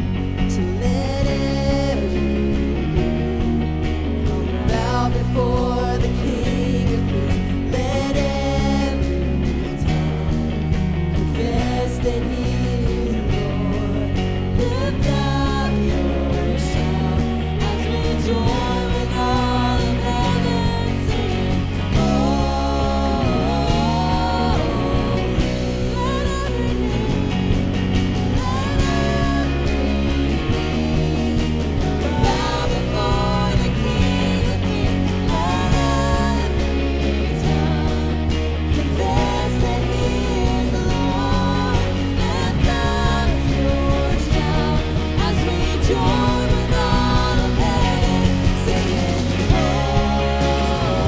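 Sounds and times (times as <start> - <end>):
person singing: 0.0 - 3.6, 4.2 - 51.0
rock band playing: 0.0 - 51.0.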